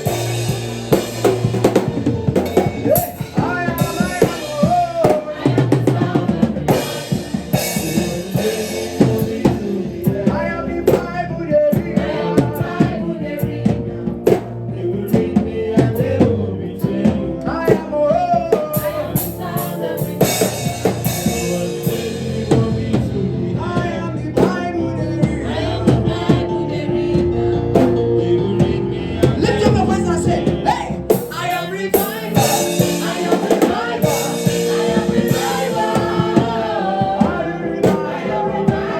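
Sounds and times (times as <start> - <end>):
drum kit playing a busy beat: 0.0 - 38.9
singing: 2.9 - 38.9.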